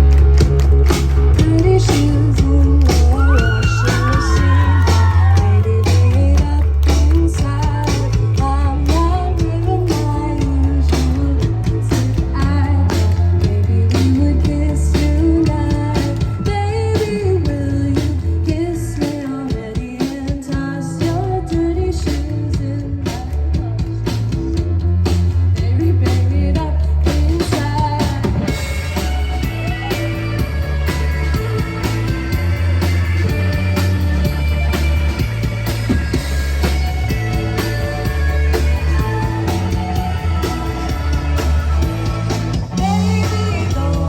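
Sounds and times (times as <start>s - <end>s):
indie rock song: 0.0s - 44.0s.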